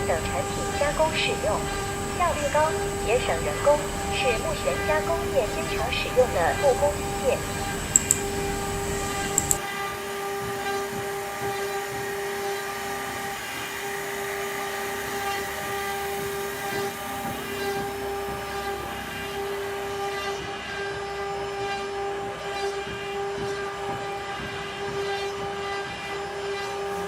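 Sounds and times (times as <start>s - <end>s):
lathe steady whine: 0.0s - 27.0s.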